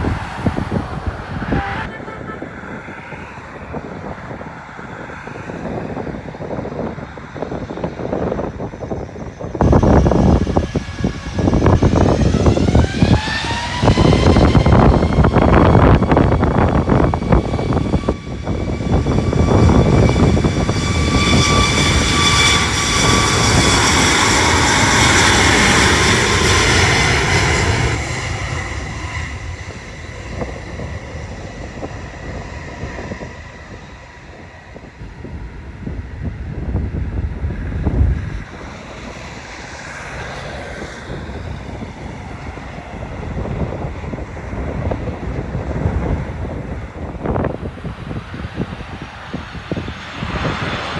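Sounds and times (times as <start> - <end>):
jet airliner engine roar and whine: 0.0 - 50.9.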